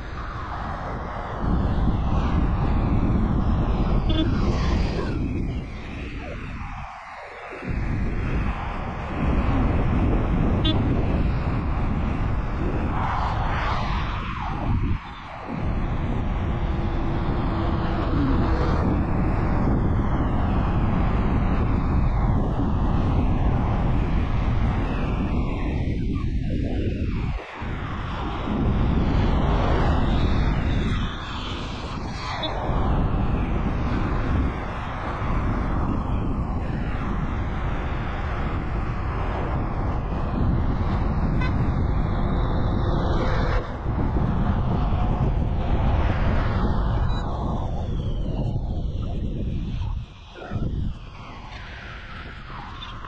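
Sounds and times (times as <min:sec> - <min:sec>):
road and wind noise: 0:00.0 - 0:53.0.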